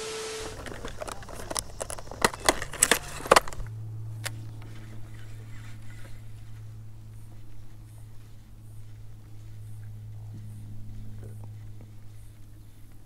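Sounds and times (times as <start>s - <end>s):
static hiss with steady tone: 0.0s - 10.9s
low steady hum: 0.0s - 13.0s.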